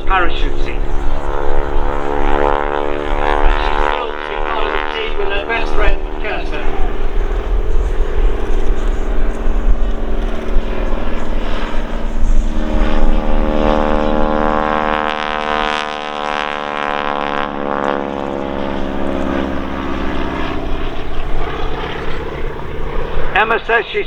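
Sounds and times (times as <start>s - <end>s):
propeller plane flying by: 0.0s - 24.0s.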